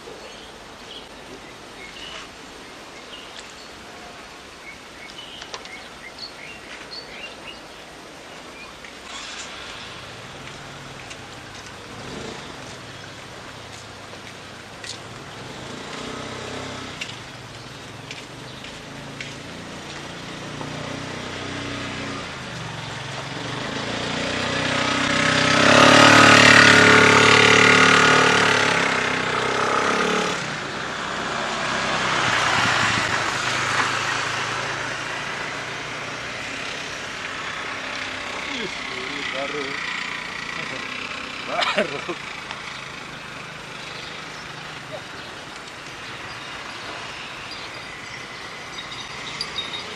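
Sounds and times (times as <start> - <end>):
motor vehicle passing by: 8.8 - 49.9.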